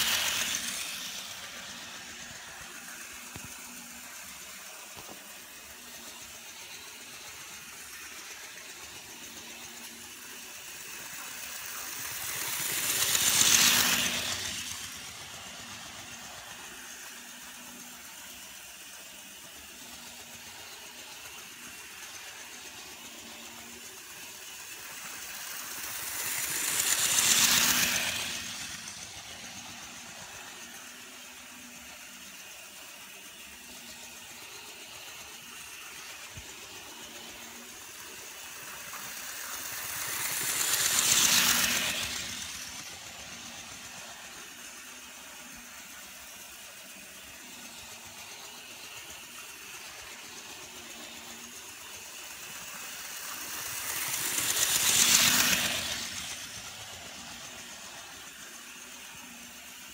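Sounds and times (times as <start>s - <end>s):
model train whirring and rattling: 0.0s - 59.9s.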